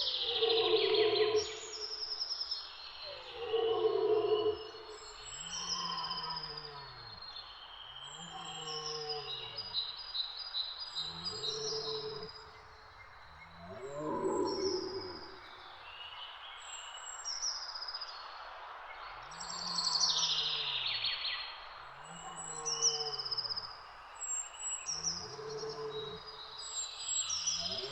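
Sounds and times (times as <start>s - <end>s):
birds singing: 2.6s - 17.6s, 19.3s - 27.9s.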